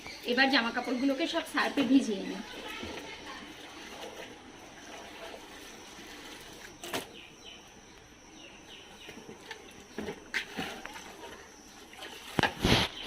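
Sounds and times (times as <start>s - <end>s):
clothes handled in water: 1.1s - 8.0s, 8.7s - 13.0s.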